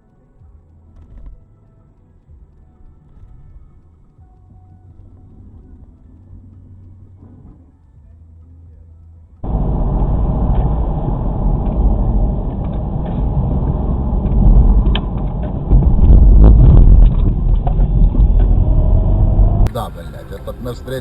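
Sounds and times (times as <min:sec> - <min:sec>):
car engine and road rumble: 0:02.7 - 0:21.0.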